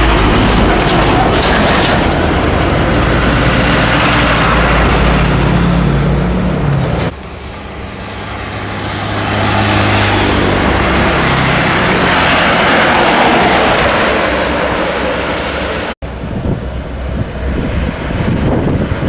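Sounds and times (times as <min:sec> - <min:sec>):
trucks driving past: 0:00.0 - 0:19.0
tyre and road noise: 0:00.0 - 0:19.0
wind buffeting microphone: 0:00.0 - 0:19.0.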